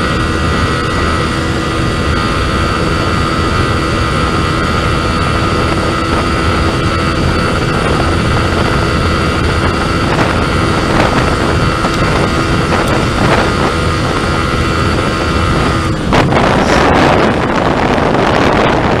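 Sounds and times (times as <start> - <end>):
motorcycle engine at high revs: 0.0 - 19.0
wind buffeting microphone: 0.0 - 19.0.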